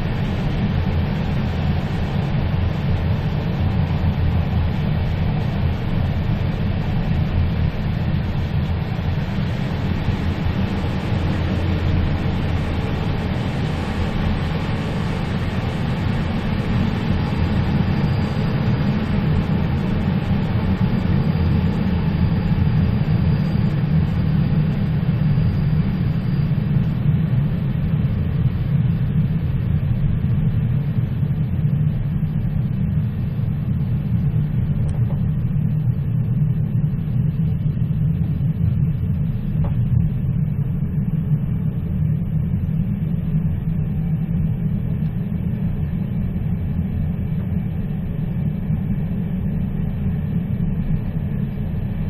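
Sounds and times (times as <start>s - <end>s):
faint high whine: 0.0s - 52.0s.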